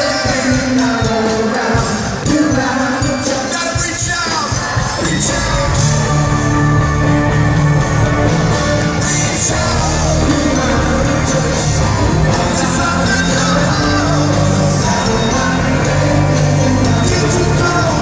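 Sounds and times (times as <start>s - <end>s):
sung vocals: 0.0s - 7.7s, 8.5s - 18.0s
live pop-rock band: 0.0s - 18.0s.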